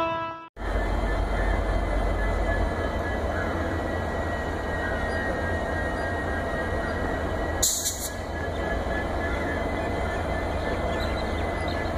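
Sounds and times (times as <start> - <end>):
locomotive engine rumbling: 0.6 - 11.9.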